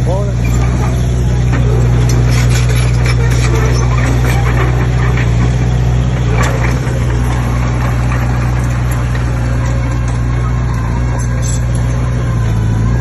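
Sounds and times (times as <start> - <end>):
heavy diesel engine humming: 0.0 - 13.0
light clanks and rattles: 0.1 - 13.0.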